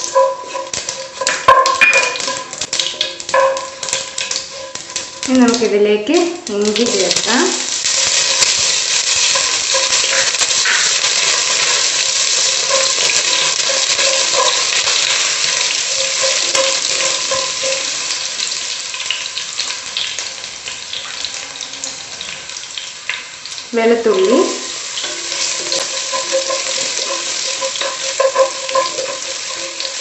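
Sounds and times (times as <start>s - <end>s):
ginger sizzling in hot oil: 0.0s - 30.0s.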